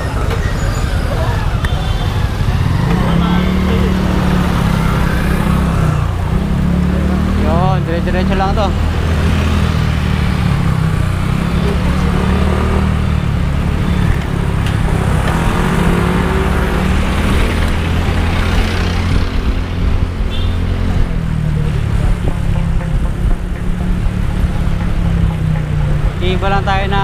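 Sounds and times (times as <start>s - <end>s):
motorcycle and car engines: 0.0s - 27.0s.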